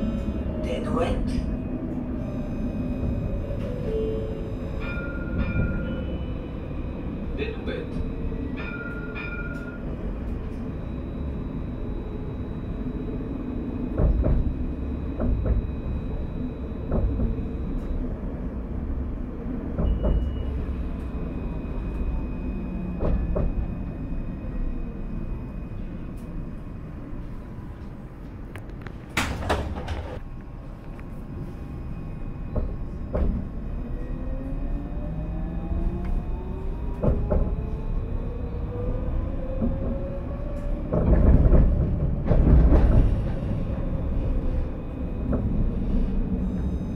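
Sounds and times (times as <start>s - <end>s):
tram running noise: 0.0s - 46.9s.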